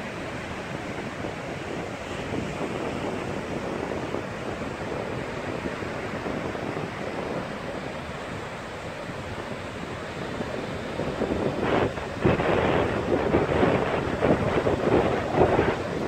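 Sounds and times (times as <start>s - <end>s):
ocean surf: 0.0s - 16.0s
wind noise on microphone: 0.0s - 16.0s.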